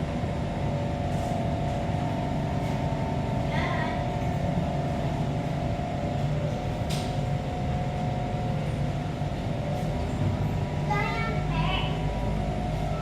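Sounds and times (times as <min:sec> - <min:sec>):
steady hum: 0:00.0 - 0:13.0
train rumble: 0:00.0 - 0:13.0.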